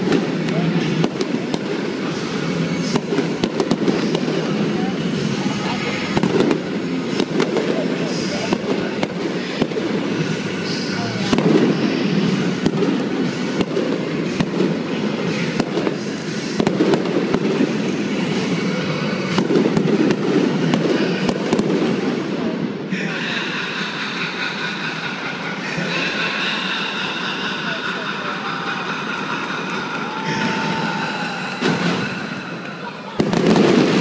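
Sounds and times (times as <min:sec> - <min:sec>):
fireworks bangs and crackles: 0:00.0 - 0:34.0
steady multi-pitched tone: 0:00.0 - 0:34.0.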